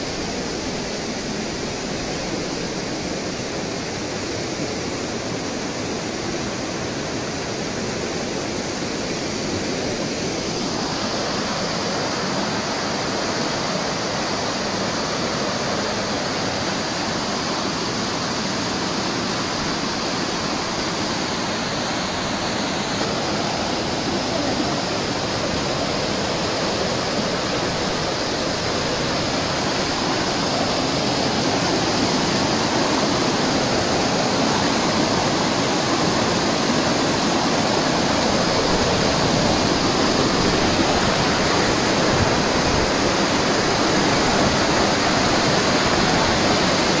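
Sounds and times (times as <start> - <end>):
waterfall roaring over boulders: 0.0 - 47.0.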